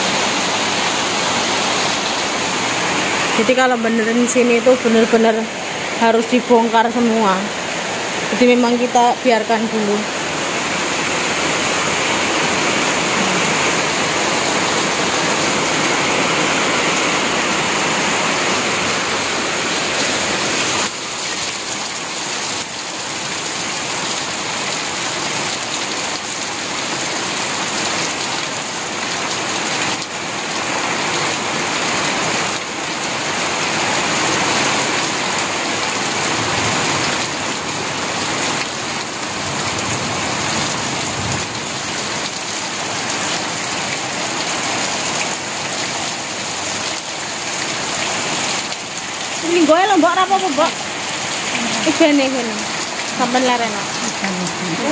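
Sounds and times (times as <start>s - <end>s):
heavy rain on a corrugated roof: 0.0s - 54.9s.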